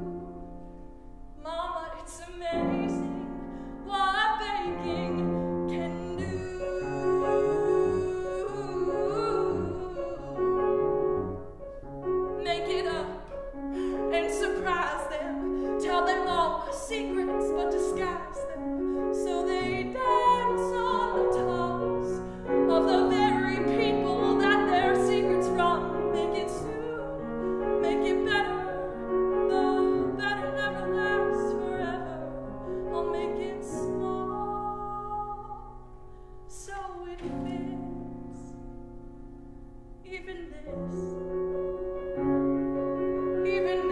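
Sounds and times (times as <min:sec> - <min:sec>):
grand piano accompaniment: 0:00.0 - 0:43.9
woman singing: 0:01.4 - 0:10.8, 0:12.4 - 0:35.8, 0:36.5 - 0:38.6, 0:40.1 - 0:41.2, 0:43.3 - 0:43.9.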